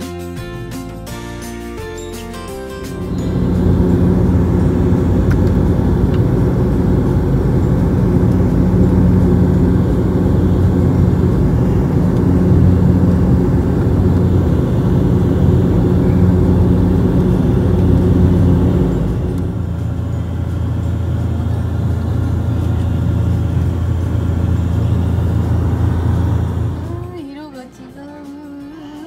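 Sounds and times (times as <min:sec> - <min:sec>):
propeller and engine drone: 0:02.1 - 0:27.2
rushing air noise: 0:02.8 - 0:27.1.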